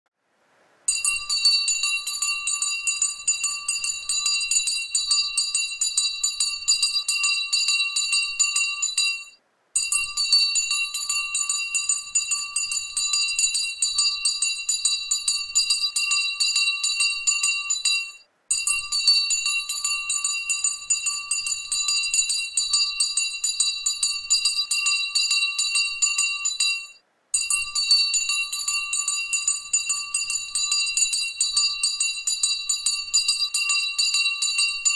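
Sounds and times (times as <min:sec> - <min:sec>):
jingle bells shaken: 0:00.9 - 0:34.9.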